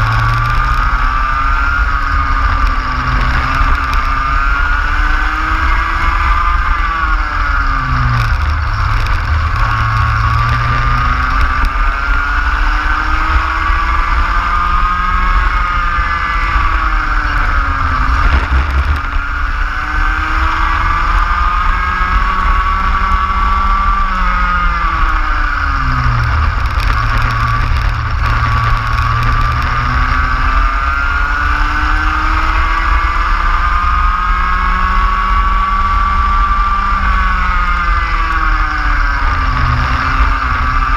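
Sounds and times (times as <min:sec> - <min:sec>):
kart engine revving: 0:00.0 - 0:40.9.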